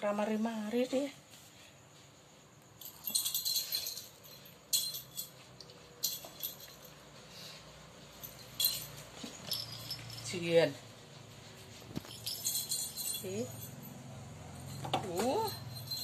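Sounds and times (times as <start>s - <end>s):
cat collar bell jingling: 2.6s - 16.0s.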